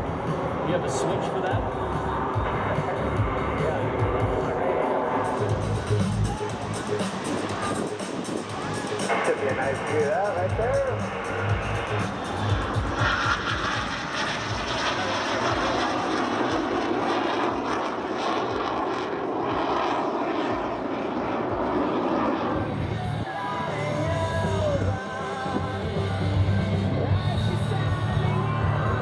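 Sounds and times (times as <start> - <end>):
music: 0.0 - 16.7, 21.4 - 29.0
aircraft engine flying by: 0.0 - 29.0.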